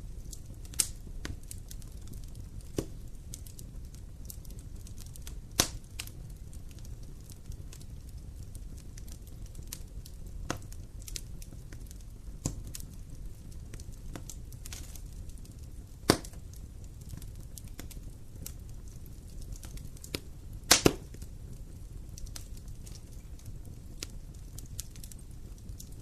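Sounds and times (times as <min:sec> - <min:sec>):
campfire crackling and popping: 0:00.0 - 0:26.0
flames rumbling: 0:00.0 - 0:26.0.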